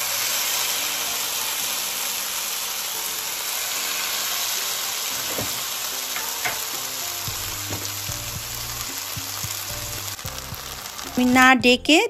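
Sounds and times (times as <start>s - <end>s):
chicken sizzling in a frying pan: 0.0s - 11.9s.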